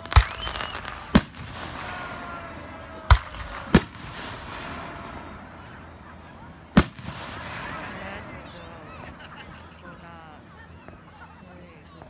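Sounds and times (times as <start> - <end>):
fireworks exploding: 0.0 - 10.1.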